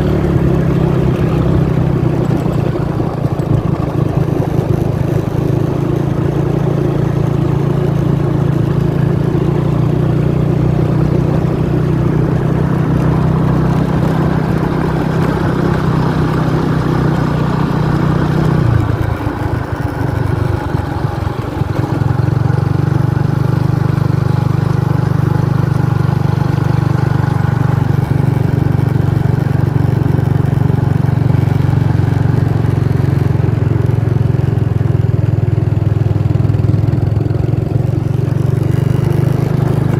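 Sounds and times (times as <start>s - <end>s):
engine humming: 0.0s - 34.4s.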